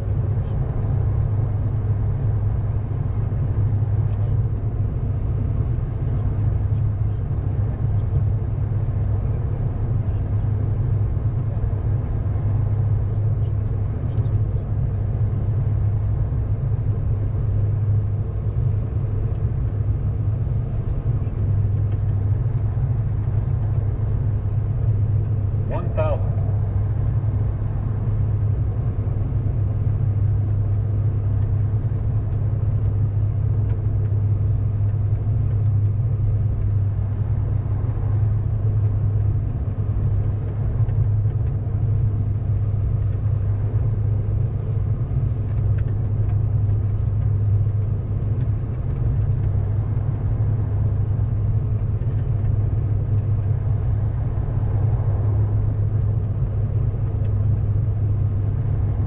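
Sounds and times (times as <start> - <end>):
propeller drone: 0.0 - 59.0.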